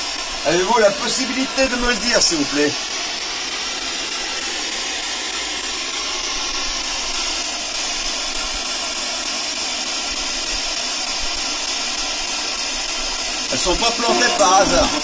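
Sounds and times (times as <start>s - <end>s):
steady even hiss: 0.0s - 15.0s.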